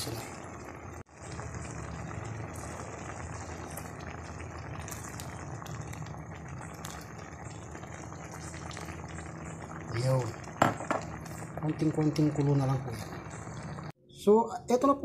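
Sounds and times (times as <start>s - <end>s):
stew boiling in a pot: 0.0s - 14.0s.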